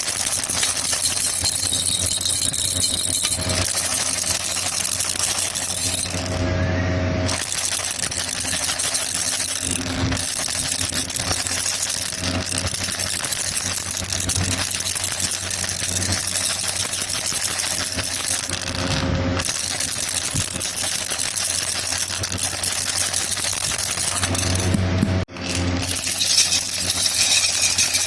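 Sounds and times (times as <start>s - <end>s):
baby rattle shaken: 0.0s - 6.5s, 7.3s - 28.0s.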